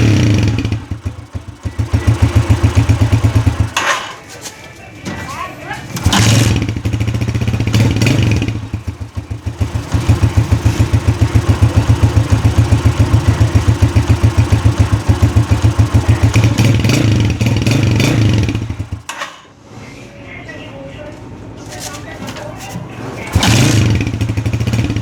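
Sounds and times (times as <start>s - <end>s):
motorcycle engine revving and idling: 0.0s - 4.8s, 5.8s - 19.4s, 23.1s - 25.0s.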